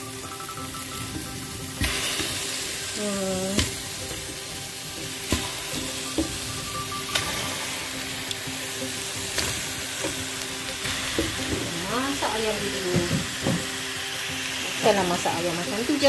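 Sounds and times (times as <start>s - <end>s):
chicken wings sizzling in wok: 0.0s - 16.0s.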